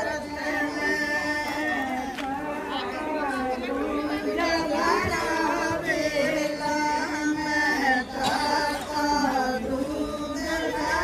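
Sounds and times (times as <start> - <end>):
women singing folk song: 0.0 - 11.0.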